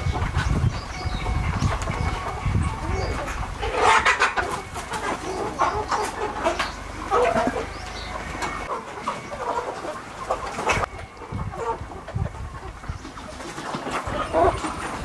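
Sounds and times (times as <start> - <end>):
hens and roosters clucking: 0.0 - 15.0.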